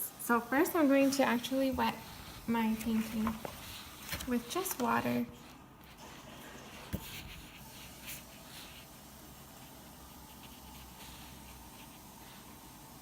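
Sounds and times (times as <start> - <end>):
paintbrush strokes on paper: 0.8 - 13.0.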